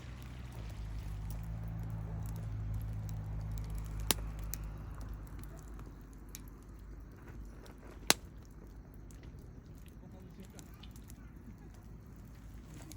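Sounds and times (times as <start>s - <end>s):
campfire crackling and popping: 0.0s - 12.9s
low engine hum: 0.0s - 12.9s.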